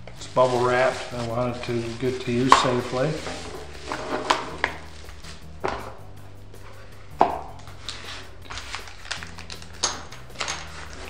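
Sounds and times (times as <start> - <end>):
bubble wrap crackling: 0.0 - 11.0
quiet background music: 0.0 - 11.0.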